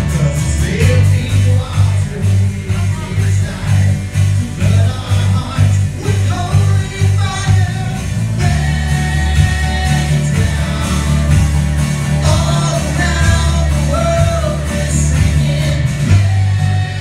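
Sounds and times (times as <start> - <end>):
electric guitar: 0.0 - 17.0
heavy bass line: 0.0 - 17.0
people singing: 0.0 - 17.0.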